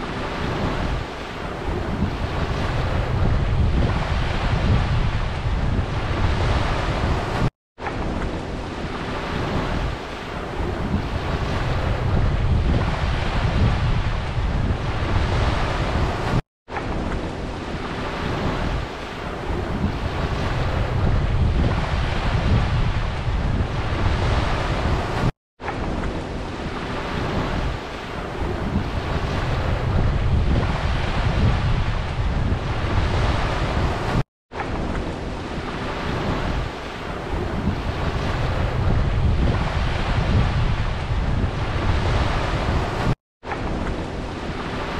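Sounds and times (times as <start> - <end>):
sea waves washing onto beach: 0.0 - 44.9
wind rumbling on microphone: 0.0 - 44.9.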